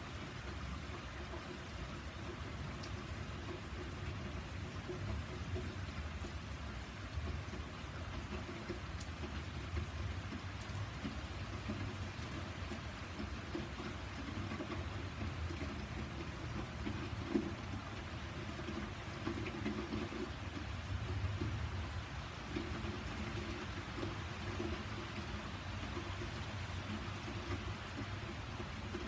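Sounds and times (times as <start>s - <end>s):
individual raindrop ticks: 0.0s - 29.0s
steady rain on garden and paving: 0.0s - 29.0s.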